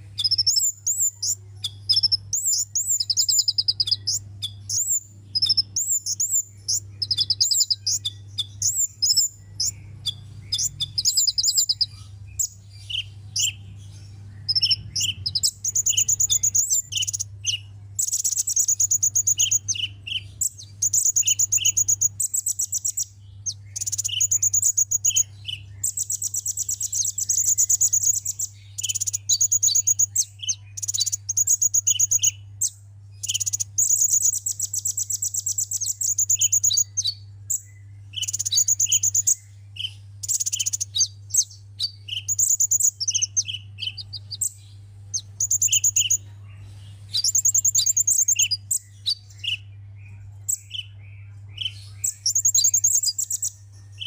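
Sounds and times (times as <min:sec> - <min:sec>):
sharp bird chirps: 0:00.0 - 0:46.2, 0:47.1 - 0:54.0
bird trilling song: 0:00.0 - 0:54.0
steady low hum: 0:00.0 - 0:54.0.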